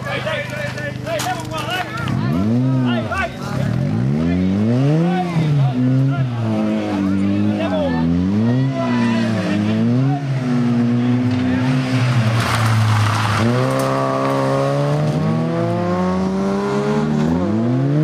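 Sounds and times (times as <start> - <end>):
rally car engine revving: 1.4 - 18.0.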